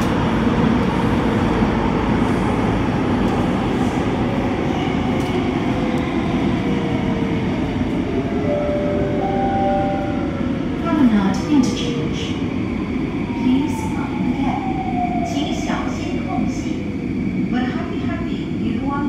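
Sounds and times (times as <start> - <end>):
train rumbling through tunnel: 0.0 - 19.0.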